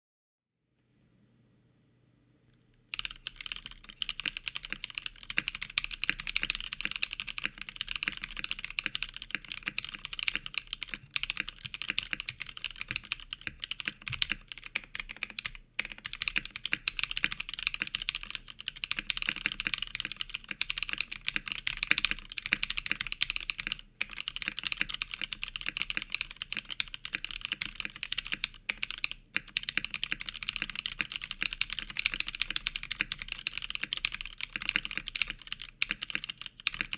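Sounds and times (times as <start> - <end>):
mechanical keyboard typing: 2.9 - 36.9.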